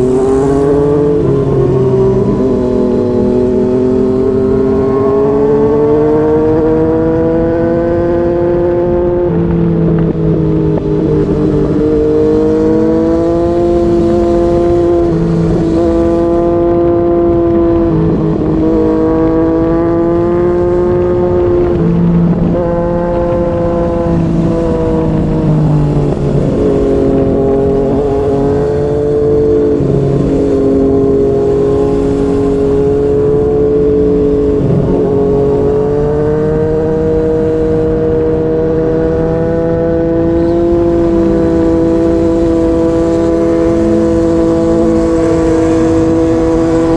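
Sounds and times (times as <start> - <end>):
motorcycle engine cruising: 0.0 - 46.9.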